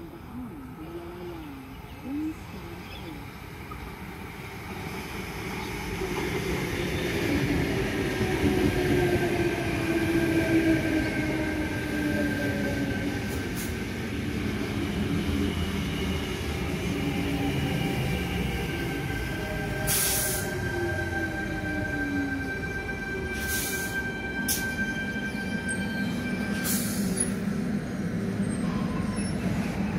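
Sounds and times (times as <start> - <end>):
train wheels rumbling on rail: 2.4 - 29.9.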